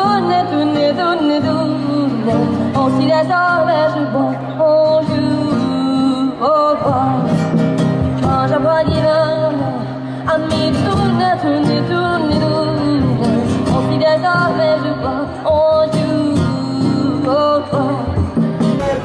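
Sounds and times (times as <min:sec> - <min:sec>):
woman singing: 0:00.0 - 0:18.6
acoustic guitar: 0:00.0 - 0:19.0.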